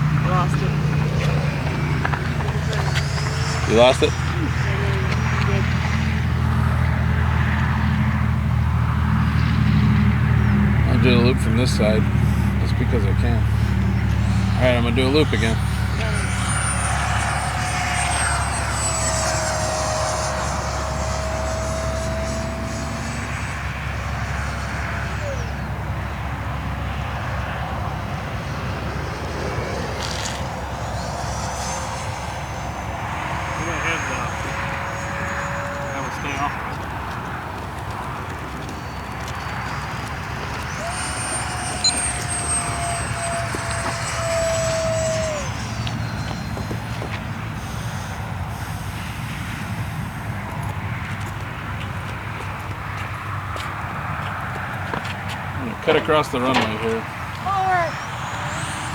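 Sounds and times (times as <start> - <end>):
model airplane motor whining: 0.0 - 58.9
wind-like noise: 0.0 - 58.9.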